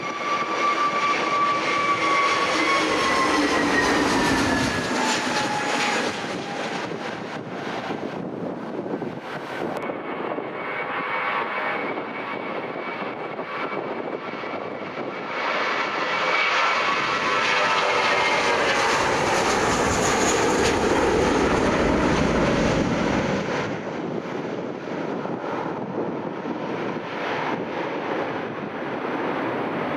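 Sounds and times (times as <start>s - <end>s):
airliner engines passing: 0.0s - 29.9s.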